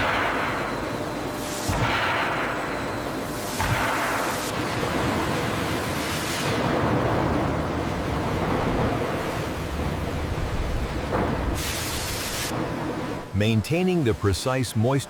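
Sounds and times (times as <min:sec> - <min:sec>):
factory machinery hiss and rumble: 0:00.0 - 0:15.0.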